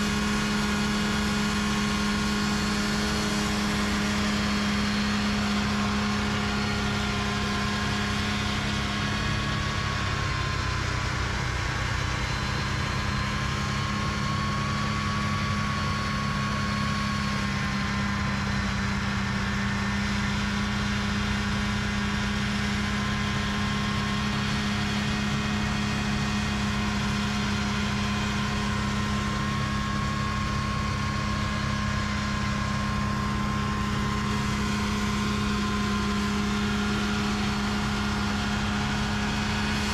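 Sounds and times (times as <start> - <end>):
diesel engine: 0.0 - 39.9
snowblower engine running: 0.0 - 39.9.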